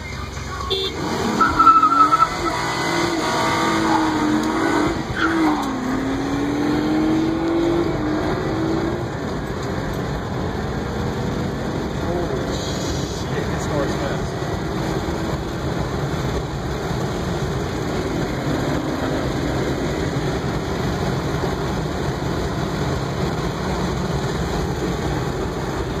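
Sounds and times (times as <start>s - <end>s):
car engine tyre and wind noise: 0.0s - 26.0s.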